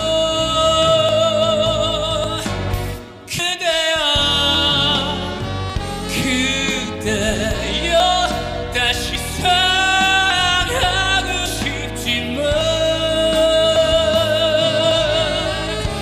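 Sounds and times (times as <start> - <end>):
ballad music: 0.0 - 16.0.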